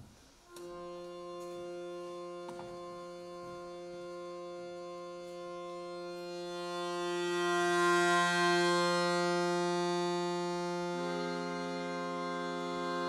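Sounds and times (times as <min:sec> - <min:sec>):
accordion: 0:00.4 - 0:13.0.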